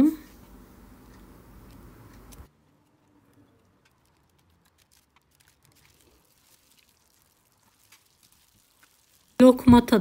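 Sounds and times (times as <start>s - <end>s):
dough frying in oil: 0.8s - 10.0s.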